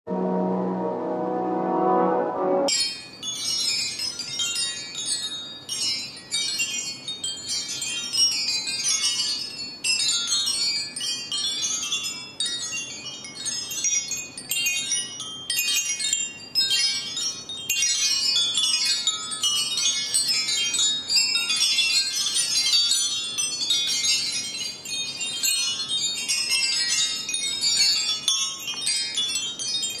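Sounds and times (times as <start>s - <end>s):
wind chime ringing: 2.7s - 30.0s.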